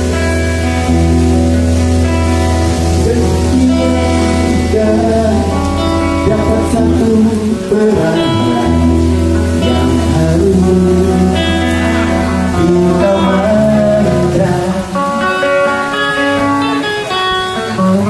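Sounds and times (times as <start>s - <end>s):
live band music: 0.0s - 18.0s
person singing: 2.5s - 18.0s.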